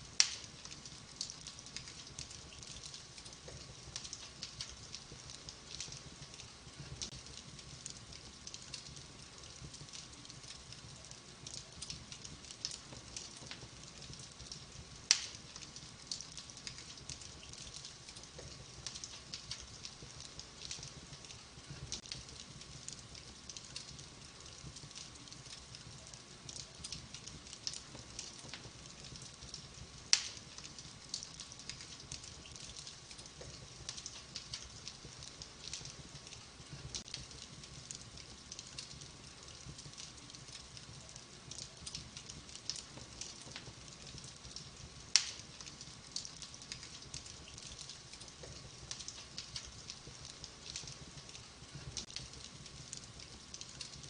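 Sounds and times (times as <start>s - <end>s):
wood fire crackling: 0.0s - 54.0s
sharp fire pops: 0.1s - 54.0s.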